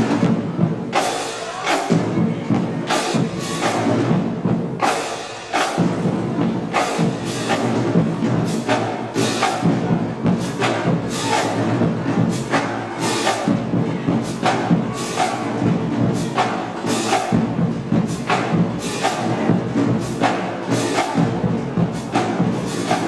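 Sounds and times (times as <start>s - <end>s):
drums and cymbals: 0.0s - 23.0s
marching band playing: 0.0s - 23.0s.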